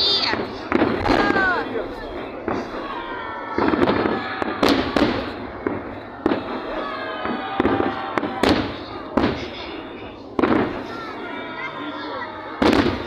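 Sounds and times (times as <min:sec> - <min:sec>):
fireworks bangs echoing: 0:00.0 - 0:13.0.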